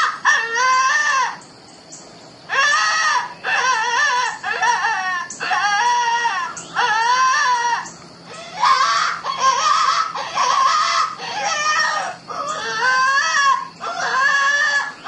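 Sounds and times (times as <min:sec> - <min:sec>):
animal distress call from phone: 0:00.0 - 0:01.4, 0:02.5 - 0:15.0.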